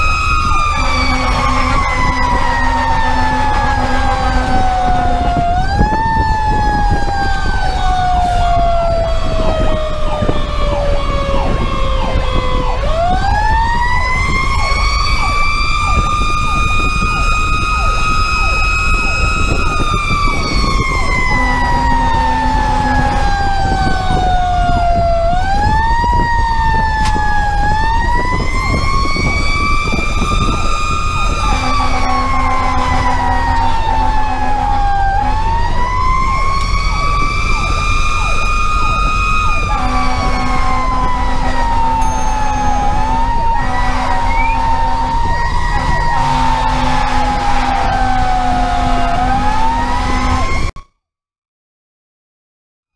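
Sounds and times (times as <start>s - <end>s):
diesel engine drone: 0.0s - 50.7s
road noise: 0.0s - 50.7s
mechanical siren wailing: 0.0s - 50.8s.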